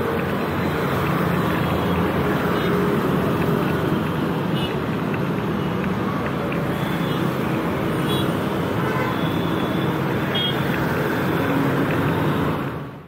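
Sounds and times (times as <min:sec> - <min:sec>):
busy road traffic: 0:00.0 - 0:13.0.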